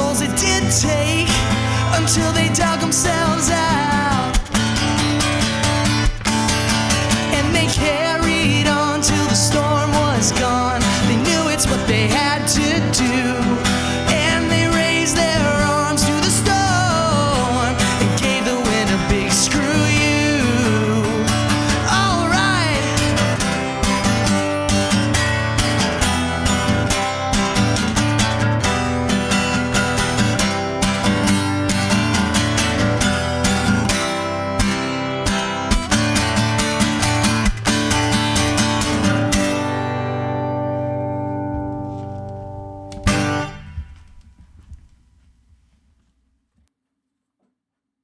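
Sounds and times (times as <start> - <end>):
strummed electric guitars: 0.0 - 44.7.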